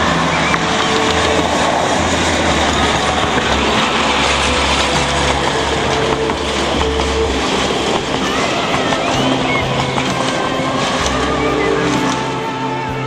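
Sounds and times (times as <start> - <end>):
locomotive running gear: 0.0 - 13.0
steam exhaust: 0.0 - 13.0
train wheels rolling over rails: 0.0 - 13.0.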